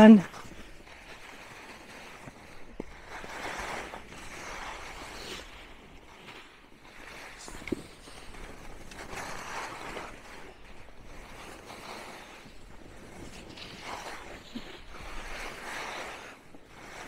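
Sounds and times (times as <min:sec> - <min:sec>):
skis scraping over packed snow: 0:00.0 - 0:17.0.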